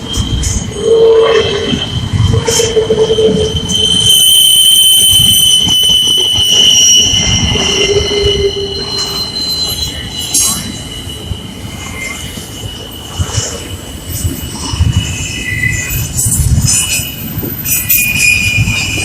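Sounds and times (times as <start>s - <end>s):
train rumble: 0.0s - 19.0s
train wheels squealing on rails: 0.0s - 19.0s.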